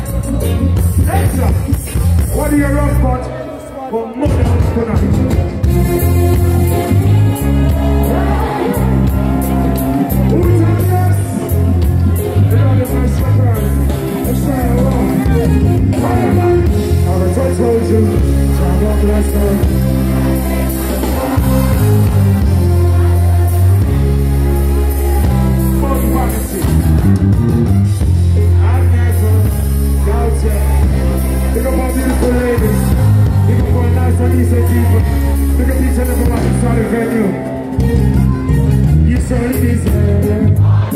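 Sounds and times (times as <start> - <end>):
reggae band playing live: 0.0 - 40.9
deep bass notes: 4.3 - 40.9.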